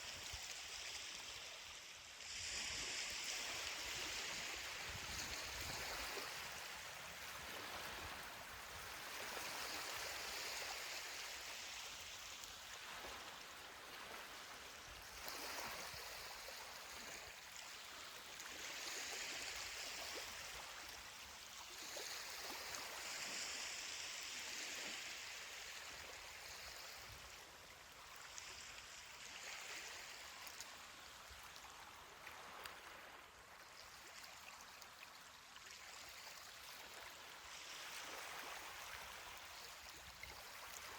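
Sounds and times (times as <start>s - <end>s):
surf hissing on a beach: 0.0s - 40.9s.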